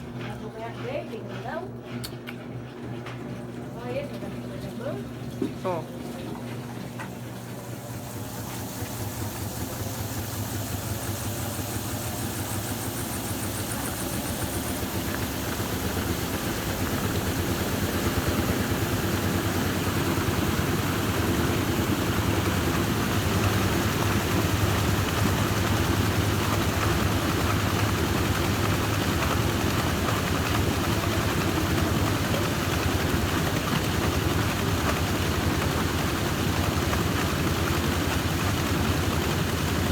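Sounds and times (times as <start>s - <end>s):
washing machine spinning and rattling: 0.0s - 39.9s.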